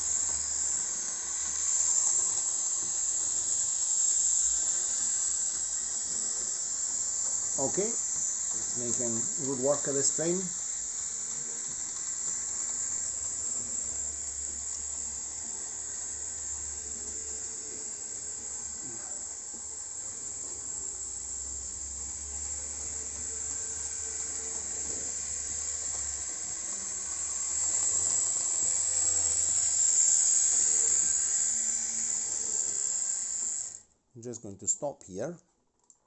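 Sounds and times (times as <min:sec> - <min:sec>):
model train motor whirring: 0:00.0 - 0:33.9.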